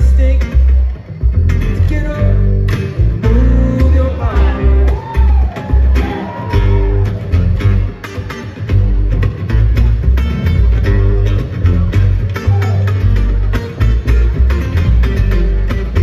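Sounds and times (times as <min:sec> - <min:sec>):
acoustic guitars picking: 0:00.0 - 0:16.0
upright bass plucking: 0:00.0 - 0:16.0.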